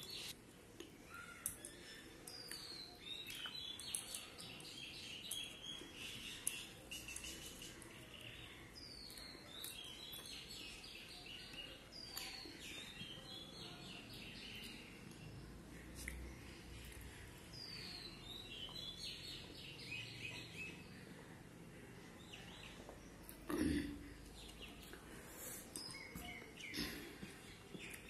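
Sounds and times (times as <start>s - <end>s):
bird chirping: 0.0s - 0.4s, 1.0s - 23.2s, 24.3s - 28.0s.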